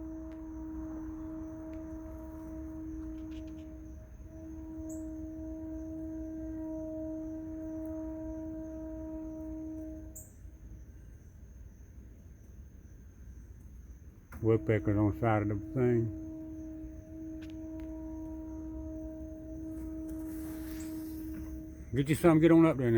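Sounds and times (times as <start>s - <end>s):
steady even-pitched hum: 0.0s - 22.9s.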